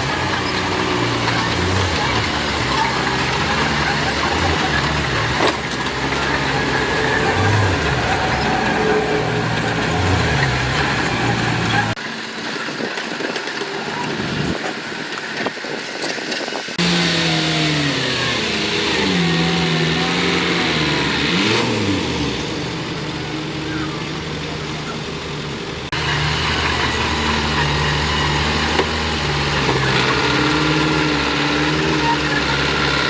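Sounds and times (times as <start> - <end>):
diesel engine running: 0.0 - 12.4, 16.7 - 33.0.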